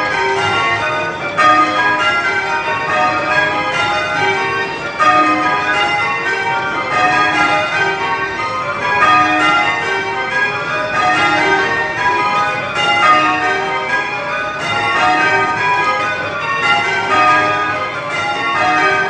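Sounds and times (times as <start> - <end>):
church bells change ringing: 0.0 - 19.0.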